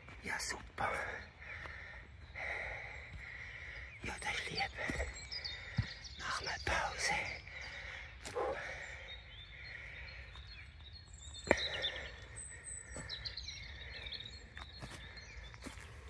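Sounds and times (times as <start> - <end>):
birds chirping and trilling: 0.0 - 16.0.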